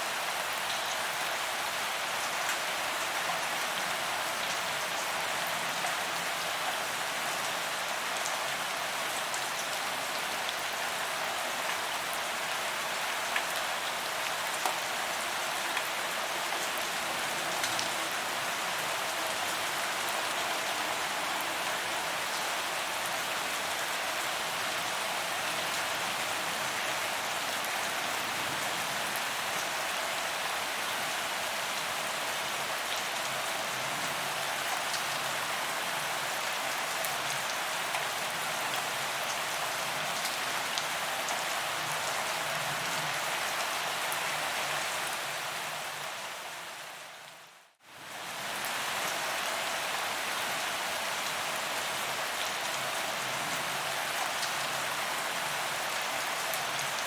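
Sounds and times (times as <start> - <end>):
rain on pavement: 0.0 - 57.0.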